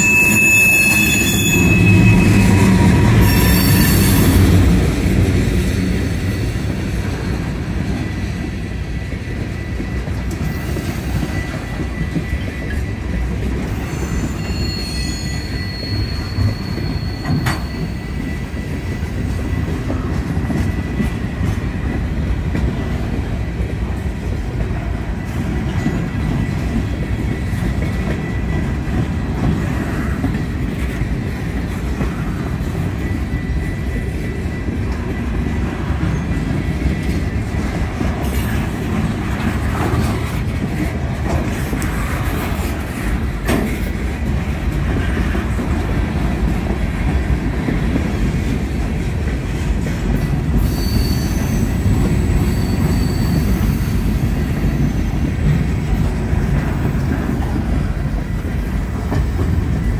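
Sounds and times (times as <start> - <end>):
train wheels squealing: 0.0 - 22.0, 23.0 - 46.3, 50.1 - 59.9
train rumbling: 0.0 - 59.9.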